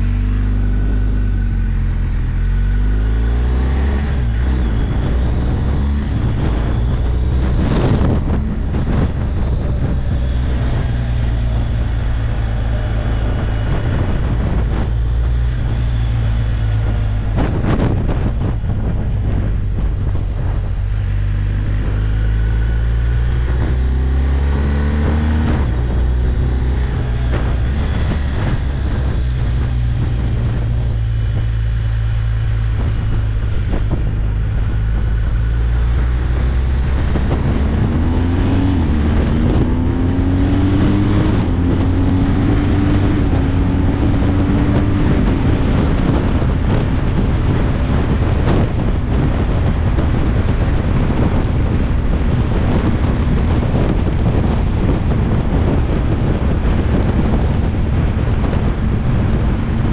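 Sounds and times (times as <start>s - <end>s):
motorcycle engine accelerating: 0.0s - 59.9s
wind buffeting microphone: 0.0s - 59.9s.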